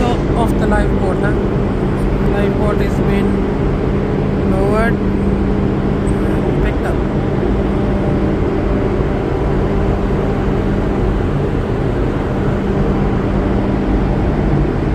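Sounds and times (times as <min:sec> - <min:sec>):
machinery drone: 0:00.0 - 0:14.9.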